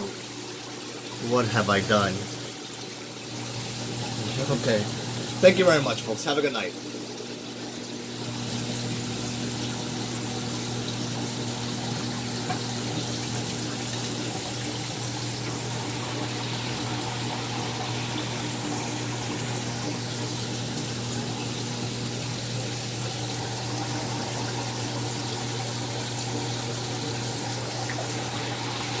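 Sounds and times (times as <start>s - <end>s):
low pump hum: 0.0s - 29.0s
trickling water hiss: 0.0s - 29.0s.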